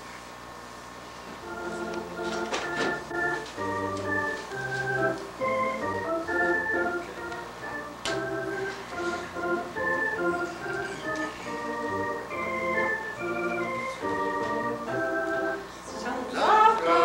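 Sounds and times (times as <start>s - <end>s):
organ playing slow chords: 1.2s - 17.0s.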